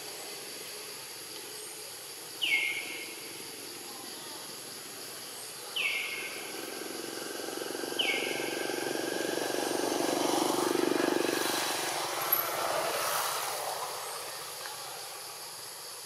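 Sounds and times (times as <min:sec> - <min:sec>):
outdoor hiss: 0:00.0 - 0:16.0.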